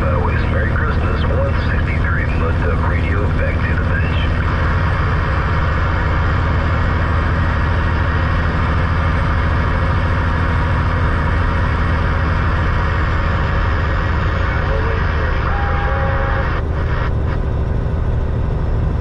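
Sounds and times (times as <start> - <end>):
road and cab noise hiss: 0.0 - 17.1
diesel truck engine droning: 0.0 - 19.0.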